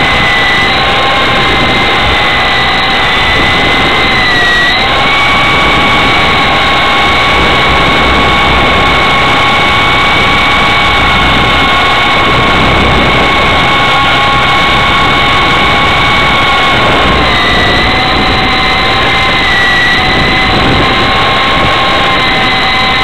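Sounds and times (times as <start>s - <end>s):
helicopter motor whine: 0.0s - 23.0s
rotor wash noise: 0.0s - 23.0s.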